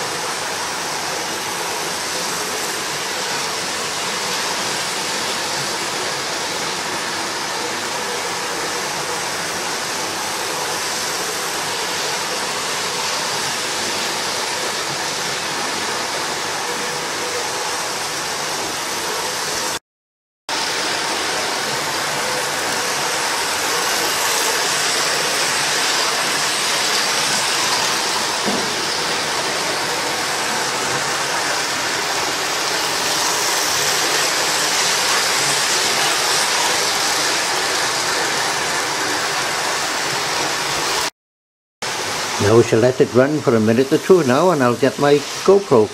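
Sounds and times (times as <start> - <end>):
model trains whirring on rails: 0.0 - 19.8, 20.5 - 41.1, 41.9 - 45.9.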